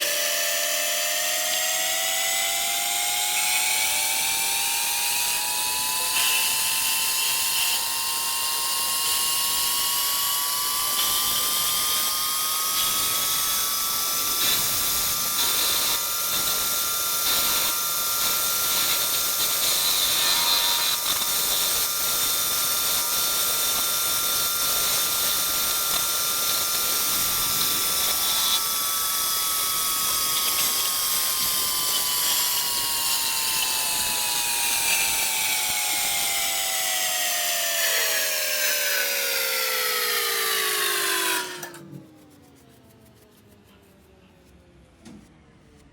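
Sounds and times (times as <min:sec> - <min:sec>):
machine tool motor whining: 0:00.0 - 0:42.7.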